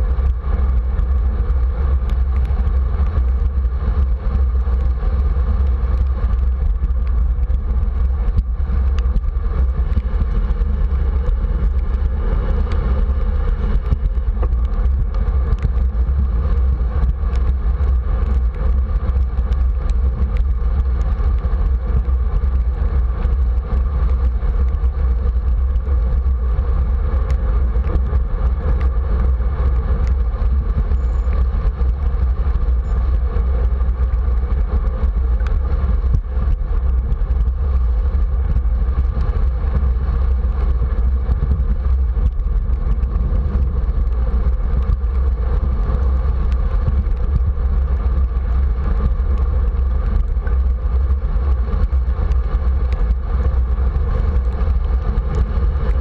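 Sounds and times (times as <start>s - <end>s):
bicycle tyres on wet pavement: 0.0s - 56.0s
wind rumble on microphone: 0.0s - 56.0s.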